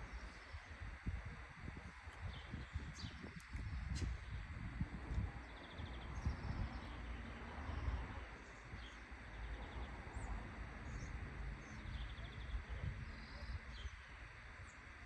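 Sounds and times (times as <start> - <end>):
steady low rumble: 0.0 - 15.0
small birds chirping: 2.2 - 15.0.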